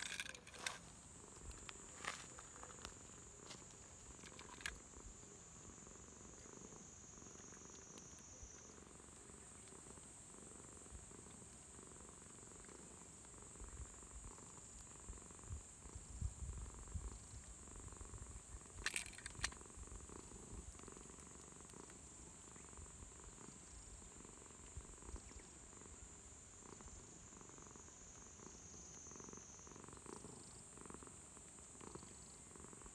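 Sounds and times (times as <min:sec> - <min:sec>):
cat purring: 0:04.2 - 0:18.7, 0:19.6 - 0:32.9.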